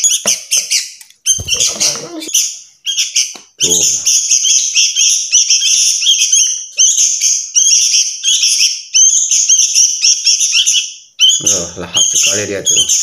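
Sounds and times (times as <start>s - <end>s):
bird chicks chirping shrilly: 0.0s - 13.0s.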